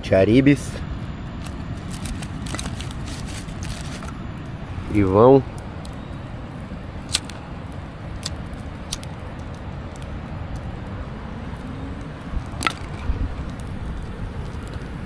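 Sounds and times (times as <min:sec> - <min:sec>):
low steady rumble: 0:00.0 - 0:15.0
campfire crackling: 0:00.2 - 0:15.0
fire popping: 0:01.0 - 0:15.0.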